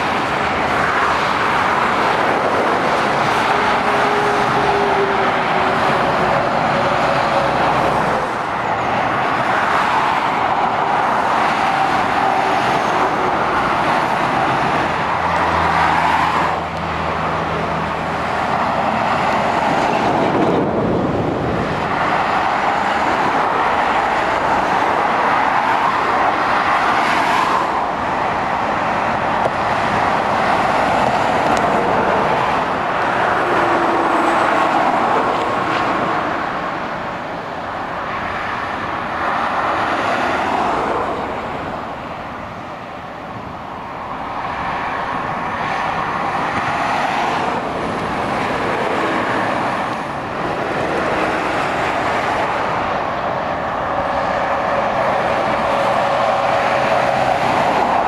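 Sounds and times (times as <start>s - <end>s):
motorway traffic passing: 0.0s - 58.0s.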